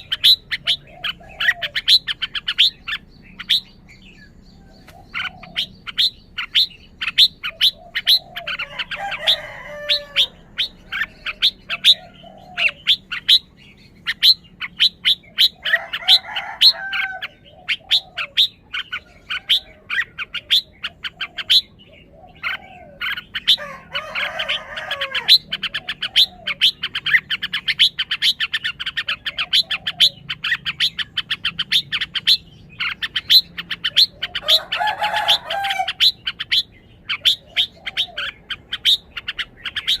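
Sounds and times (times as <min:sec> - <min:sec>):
bulbul singing warbled phrases: 0:00.0 - 0:40.0.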